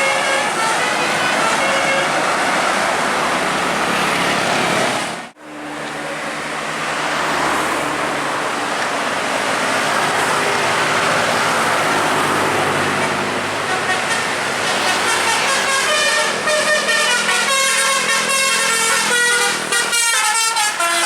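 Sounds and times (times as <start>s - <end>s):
heavy vehicle passing: 0.4s - 21.0s.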